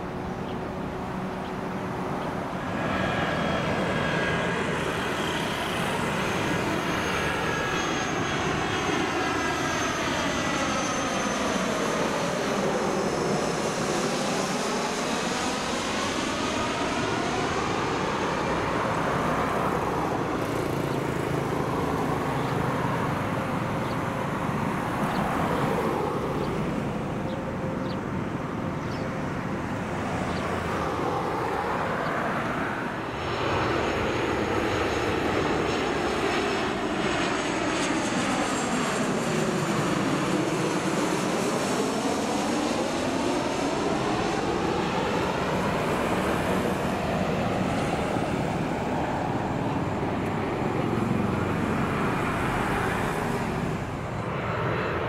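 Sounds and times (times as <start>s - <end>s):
jet airliner roar and whine: 0.0s - 55.0s.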